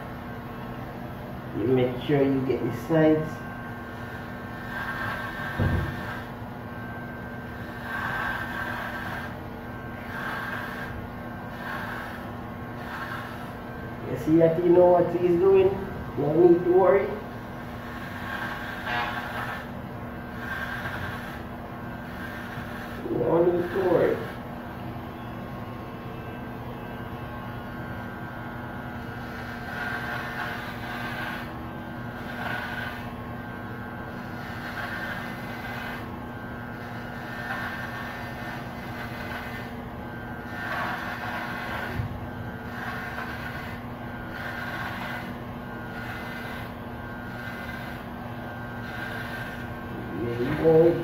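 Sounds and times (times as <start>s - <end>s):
electric hair clippers buzzing: 0.0s - 51.0s.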